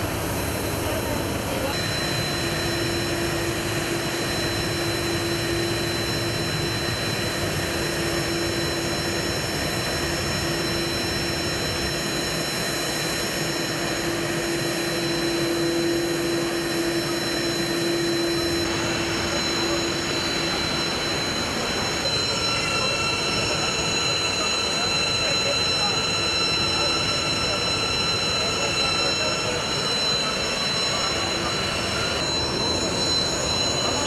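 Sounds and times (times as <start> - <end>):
jet engine running: 0.0 - 34.0.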